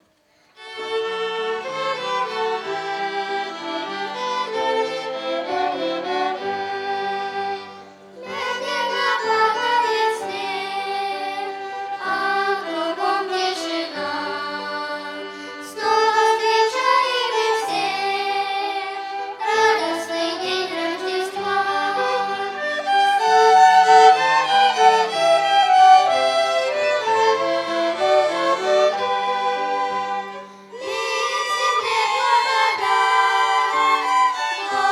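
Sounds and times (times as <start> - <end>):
violin ensemble playing slow melody: 0.0 - 34.9.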